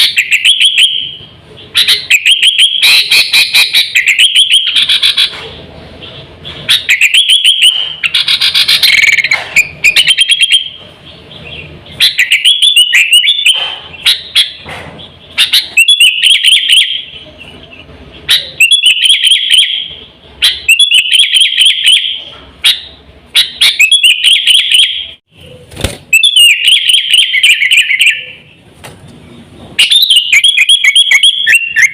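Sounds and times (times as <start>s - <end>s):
bird singing whistled notes: 0.0s - 1.2s, 1.8s - 5.2s, 6.7s - 14.6s, 15.4s - 25.2s, 26.1s - 28.5s, 29.8s - 31.9s.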